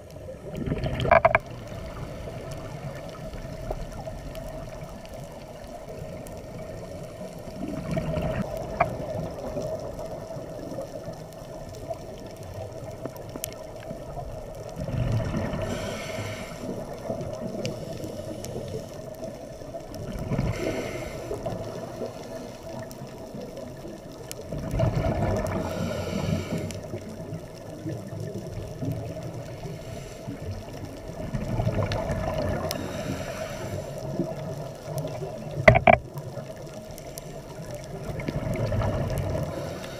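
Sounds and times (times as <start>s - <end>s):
underwater exhaled bubbles rushing: 0.0s - 39.9s.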